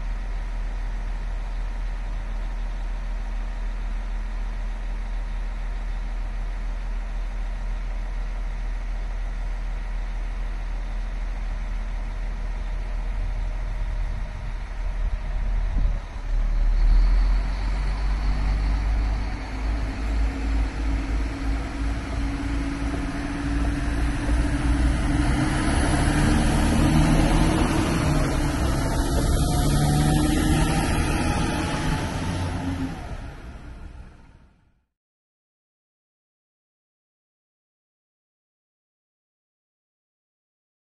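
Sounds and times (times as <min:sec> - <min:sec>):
diesel railcar engine: 0:00.0 - 0:34.8.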